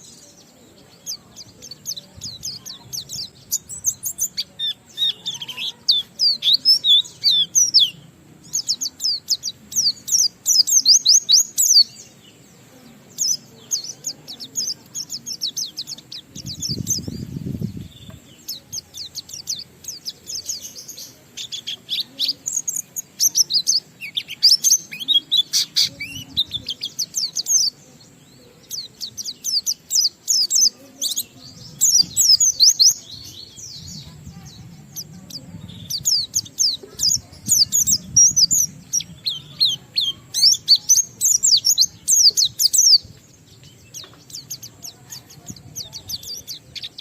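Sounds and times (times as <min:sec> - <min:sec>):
bird singing chattering song: 0:00.0 - 0:47.0.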